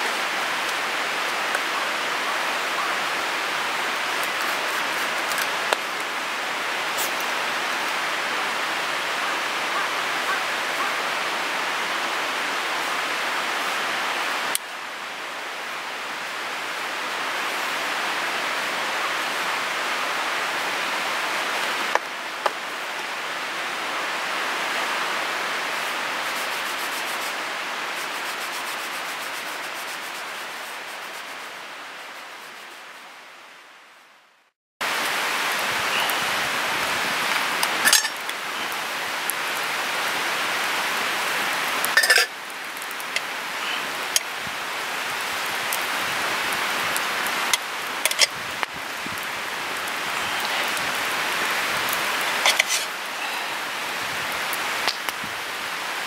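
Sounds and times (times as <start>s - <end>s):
steady rushing hiss: 0.0s - 33.8s, 34.8s - 56.0s.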